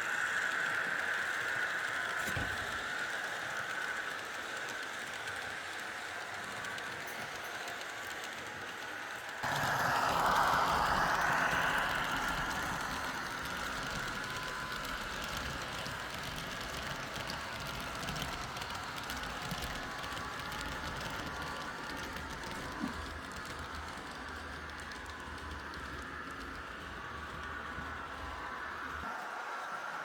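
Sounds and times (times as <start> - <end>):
model train wheels rattling over track: 0.0 - 29.1
model train motor whine: 0.0 - 30.0.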